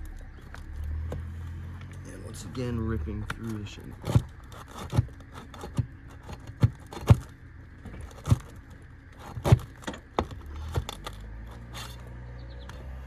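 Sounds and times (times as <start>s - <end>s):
metal scraping: 0.0s - 12.2s.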